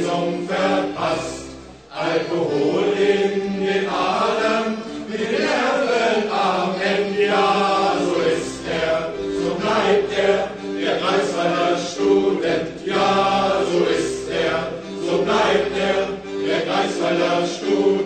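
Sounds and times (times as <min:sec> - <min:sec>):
group singing in chorus: 0:00.0 - 0:18.0.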